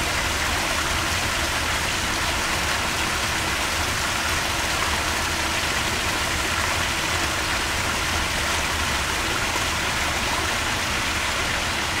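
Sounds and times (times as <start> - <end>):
waterfall splashing into pond: 0.0 - 12.0.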